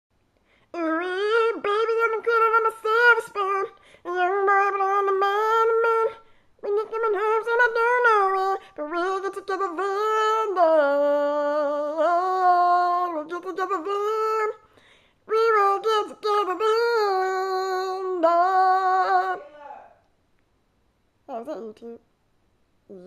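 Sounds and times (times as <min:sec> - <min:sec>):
girl singing wordlessly: 0:00.6 - 0:19.8, 0:21.3 - 0:22.1.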